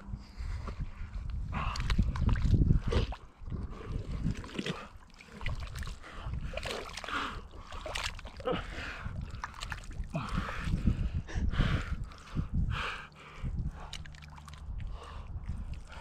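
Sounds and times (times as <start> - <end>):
wet mud squelching: 1.1 - 16.0.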